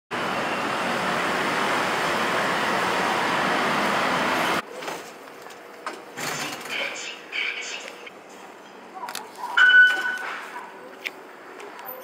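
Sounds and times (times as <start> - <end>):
indoor station ambience: 0.1 - 12.0
road traffic noise: 0.1 - 12.0.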